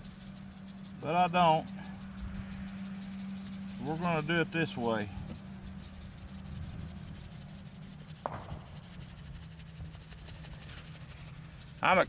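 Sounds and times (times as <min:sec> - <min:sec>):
faint low hum: 0:00.0 - 0:12.0
paper seed packet rubbing: 0:00.0 - 0:12.0.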